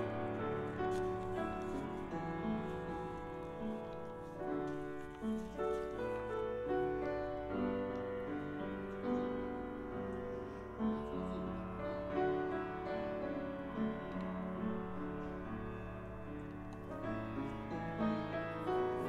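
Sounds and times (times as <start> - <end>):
keyboard playing slow chords: 0.0 - 19.0.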